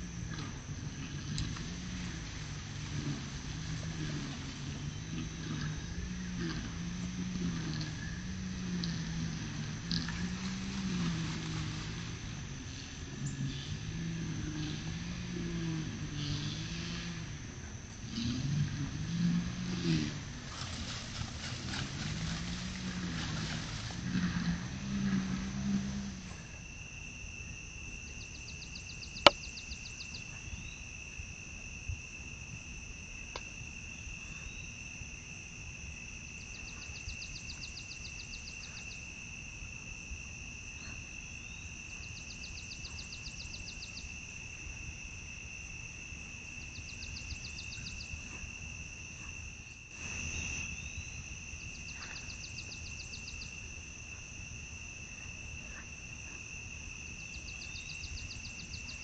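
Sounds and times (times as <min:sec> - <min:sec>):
insect trilling: 0:00.0 - 0:31.0, 0:36.4 - 0:39.4, 0:40.8 - 0:59.0
fast pulsed insect chirping: 0:00.0 - 0:59.0.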